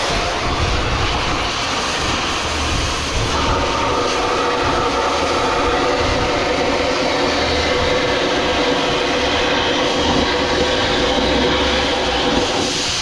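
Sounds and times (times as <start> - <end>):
angle grinder cutting steel: 0.0 - 13.0.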